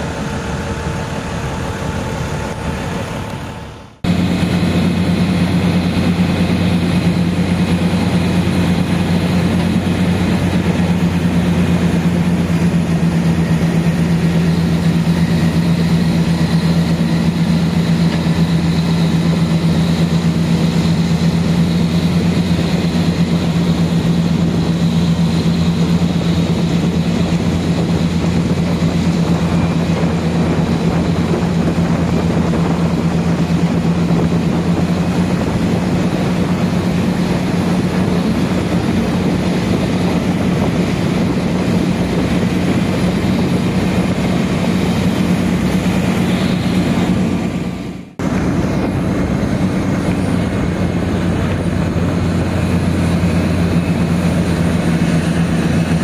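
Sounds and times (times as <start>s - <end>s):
road noise: 0.0s - 56.0s
vehicle engine droning: 0.0s - 56.0s
wind noise: 0.0s - 56.0s.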